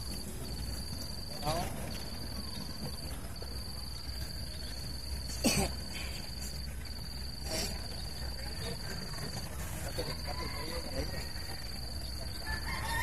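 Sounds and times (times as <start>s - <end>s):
insect trilling: 0.0s - 13.0s
low outdoor rumble: 0.0s - 13.0s.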